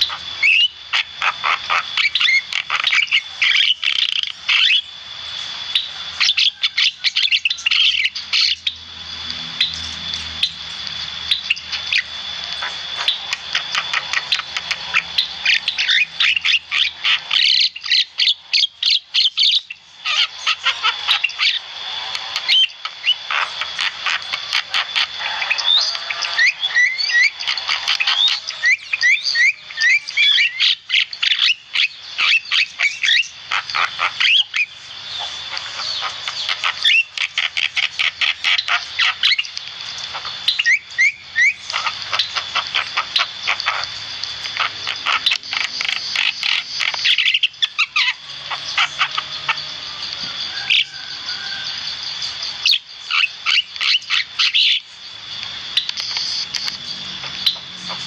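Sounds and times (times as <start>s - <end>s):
myna bird chattering: 0.0s - 4.9s, 9.6s - 55.0s, 55.7s - 58.0s.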